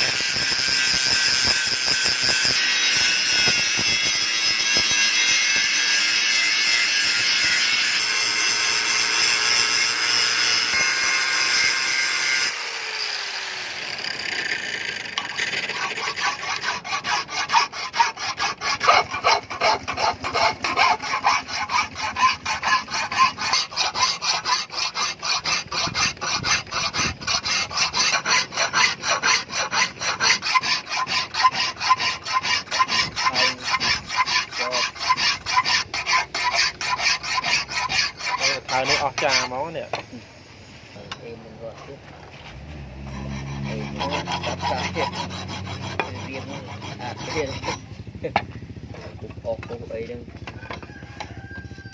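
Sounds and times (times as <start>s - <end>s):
rhythmic hand filing: 0.0s - 13.0s, 15.1s - 40.2s, 43.0s - 51.9s.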